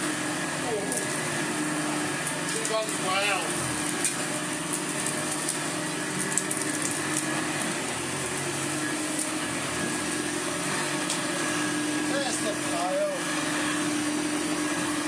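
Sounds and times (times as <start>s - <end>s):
vacuum cleaner motor hum: 0.0s - 15.0s.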